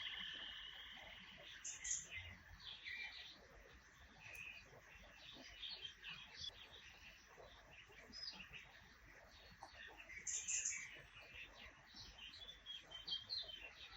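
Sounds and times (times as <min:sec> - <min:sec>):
low background hiss: 0:00.0 - 0:13.9
small birds chirping: 0:00.0 - 0:13.9.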